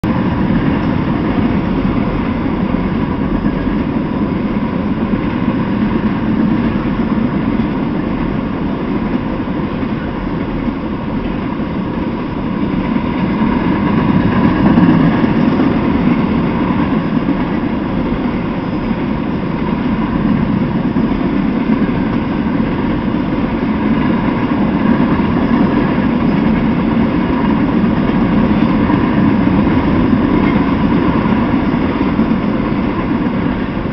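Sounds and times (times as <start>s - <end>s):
freight train wheels on rails: 0.0s - 33.9s.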